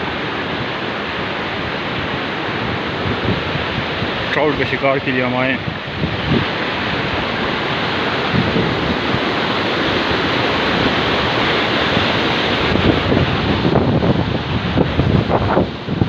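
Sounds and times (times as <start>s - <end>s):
fast river rushing: 0.0s - 16.0s
wind buffeting microphone: 0.0s - 16.0s.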